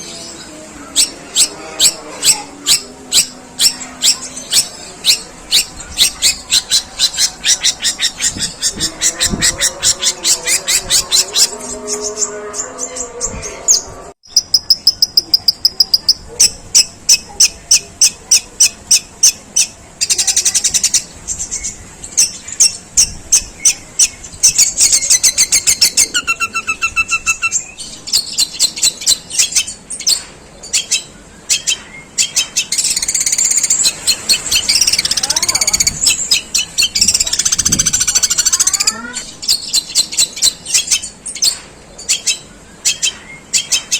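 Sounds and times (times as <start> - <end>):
bird singing harsh chirps: 0.0 - 43.9.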